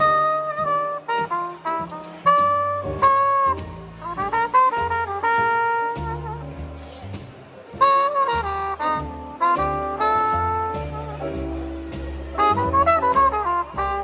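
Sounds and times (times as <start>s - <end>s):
bass notes: 0.0s - 14.0s
muted trumpet playing jazz: 0.0s - 14.0s.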